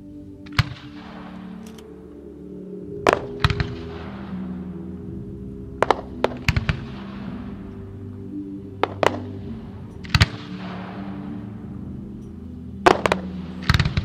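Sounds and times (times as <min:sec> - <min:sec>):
music playing: 0:00.0 - 0:14.0.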